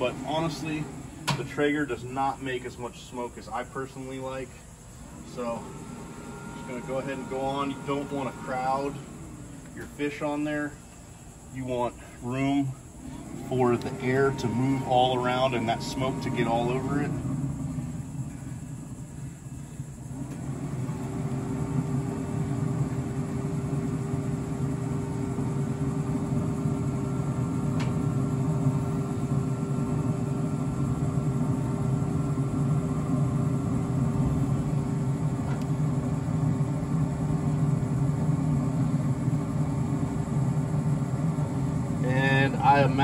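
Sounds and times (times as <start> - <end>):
motor humming: 0.0 - 2.0, 4.9 - 11.1, 12.8 - 43.0.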